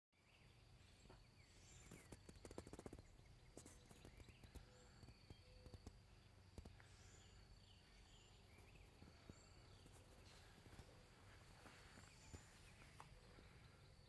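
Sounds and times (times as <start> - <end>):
faint chirps: 0.2 - 14.0
soft clicks and crackles: 1.0 - 7.5, 8.6 - 13.5.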